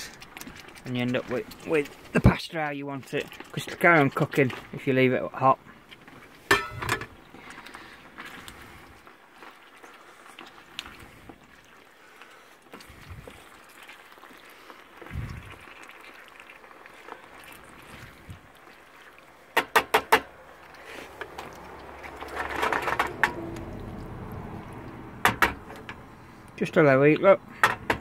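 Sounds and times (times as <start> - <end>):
sauce simmering in a frying pan: 0.0 - 6.5, 7.1 - 27.4.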